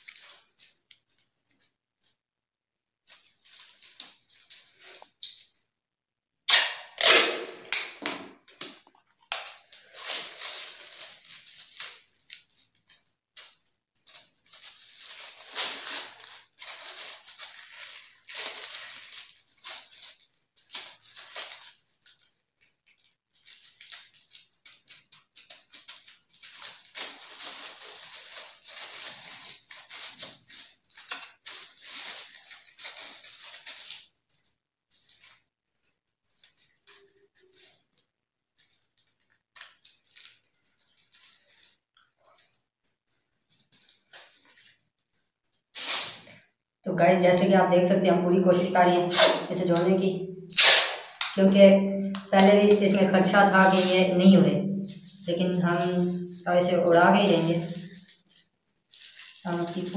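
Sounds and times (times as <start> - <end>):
paper kite crinkling and rustling: 0.0 - 2.2, 3.0 - 5.6, 8.0 - 46.4, 50.6 - 59.9.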